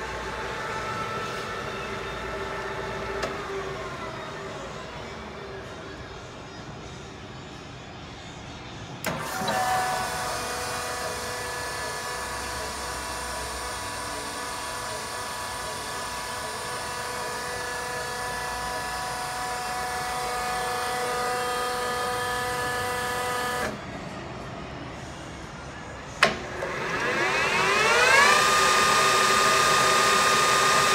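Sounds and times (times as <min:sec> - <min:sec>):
lathe whining: 0:00.0 - 0:06.3, 0:09.0 - 0:24.0, 0:26.2 - 0:30.9.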